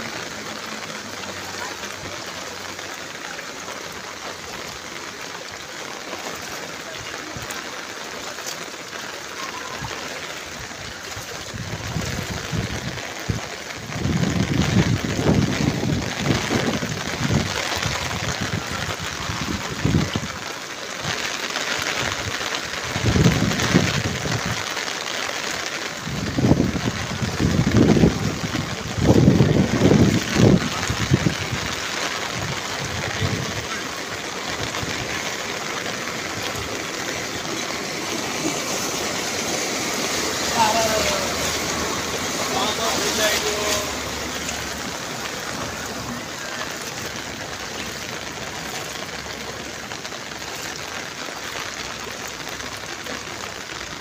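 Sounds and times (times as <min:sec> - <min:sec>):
heavy rain on flooded road: 0:00.0 - 0:54.0.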